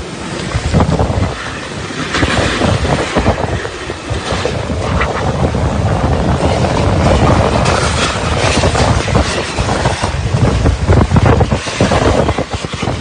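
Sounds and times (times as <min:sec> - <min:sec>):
strong wind buffeting microphone: 0:00.0 - 0:13.0
wind-driven rain: 0:00.0 - 0:13.0.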